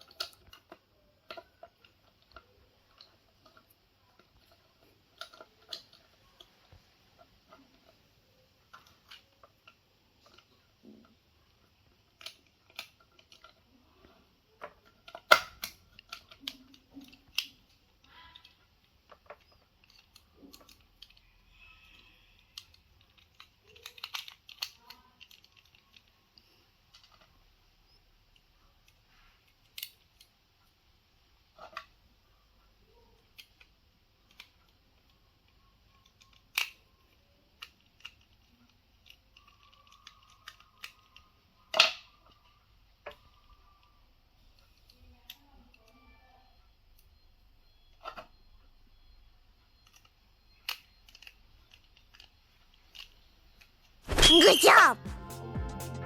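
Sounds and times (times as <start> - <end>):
toy parts clicking: 0.0 - 30.5, 31.5 - 46.0, 46.6 - 55.0.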